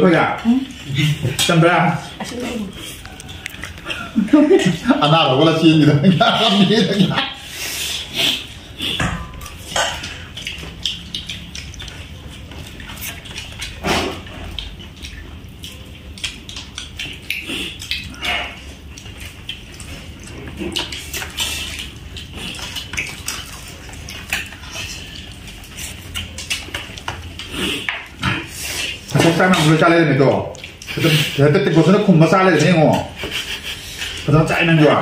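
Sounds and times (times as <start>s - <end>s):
chewing and mouth smacking: 0.6s - 5.0s, 5.8s - 34.8s.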